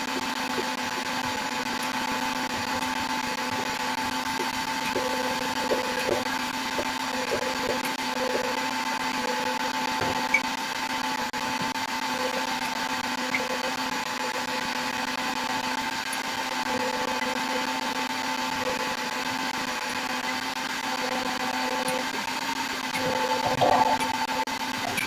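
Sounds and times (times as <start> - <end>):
electric motor whirring hum: 0.0 - 25.0.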